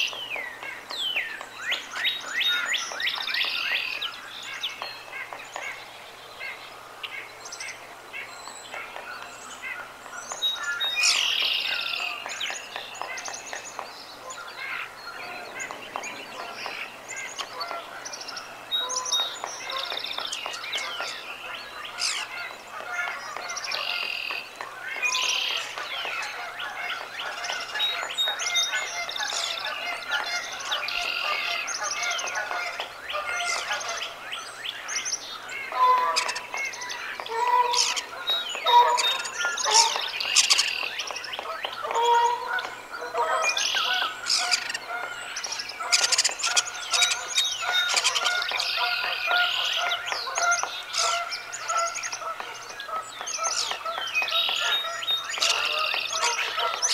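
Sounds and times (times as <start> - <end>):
birds chirping and singing: 0.0 - 56.9
lower louder bird calls: 0.0 - 56.9.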